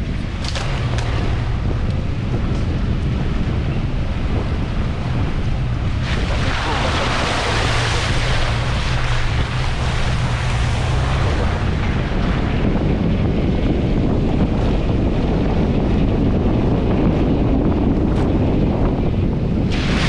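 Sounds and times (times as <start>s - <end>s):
vehicle engine driving off-road: 0.0s - 20.0s
wind buffeting microphone: 0.0s - 20.0s.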